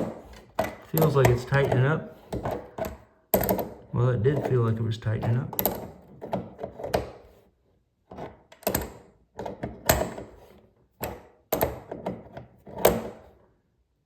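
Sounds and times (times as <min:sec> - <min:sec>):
tools clicking and knocking: 0:00.0 - 0:07.4, 0:08.1 - 0:13.4.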